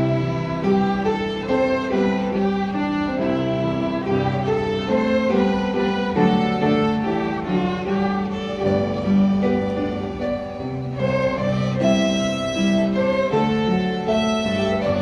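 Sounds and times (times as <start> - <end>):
violin ensemble playing slow melody: 0.0 - 15.0.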